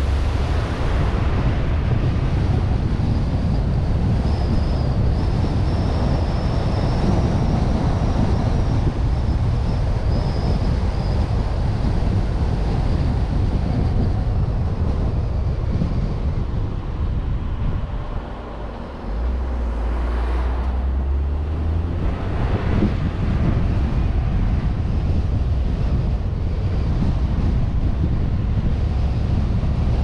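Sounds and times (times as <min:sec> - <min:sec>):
car engine and road rumble: 0:00.0 - 0:30.0
low engine note: 0:00.0 - 0:30.0
wind noise on microphone: 0:00.0 - 0:30.0.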